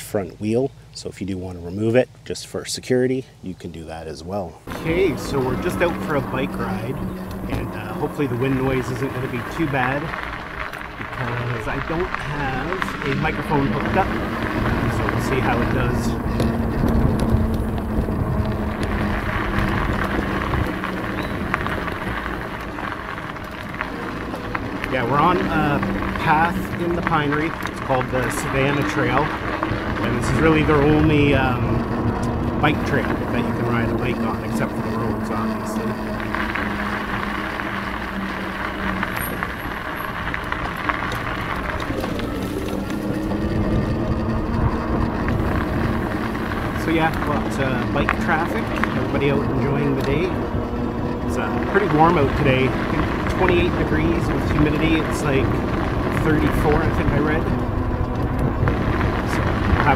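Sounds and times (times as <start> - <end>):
tyres crunching on gravel: 0.0 - 59.9
electric bike motor hum: 4.6 - 59.9
wind buffeting microphone: 4.6 - 59.9.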